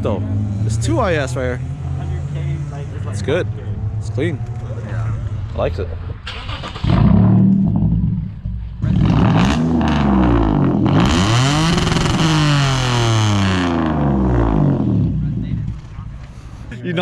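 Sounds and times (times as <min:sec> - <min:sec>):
car engine revving hard: 0:00.0 - 0:08.2, 0:08.8 - 0:15.7.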